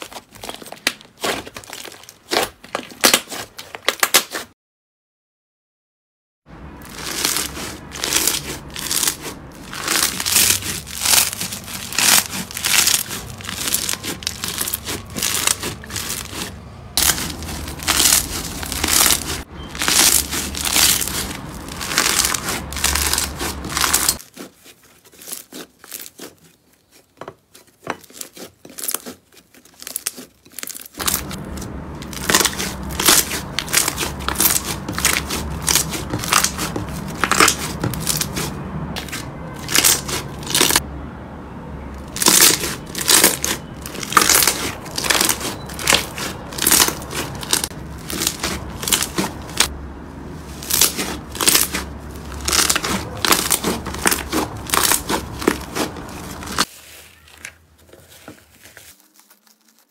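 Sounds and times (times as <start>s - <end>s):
slime crackling and popping: 0.0s - 4.4s, 6.8s - 26.4s, 28.0s - 40.8s, 42.0s - 49.7s, 50.5s - 56.7s, 58.5s - 59.9s.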